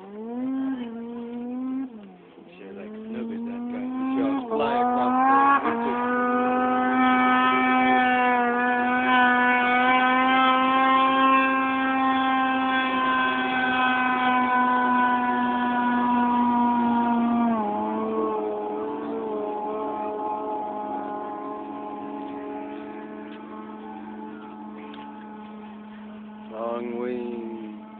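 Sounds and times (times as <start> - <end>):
snowmobile engine at high revs: 0.0 - 27.9.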